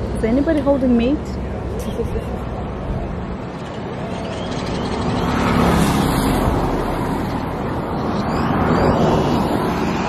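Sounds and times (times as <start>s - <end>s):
road traffic passing: 0.0s - 10.0s.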